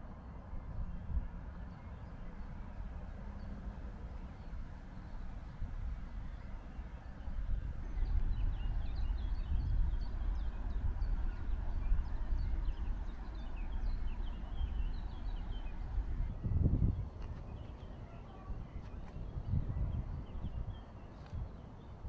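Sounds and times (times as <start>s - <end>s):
steady low rumble: 0.0s - 22.0s
small birds chirping: 1.5s - 22.0s.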